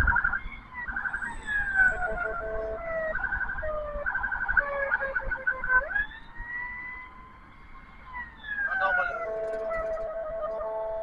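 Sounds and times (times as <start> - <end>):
ambulance siren warbling: 0.0 - 11.0.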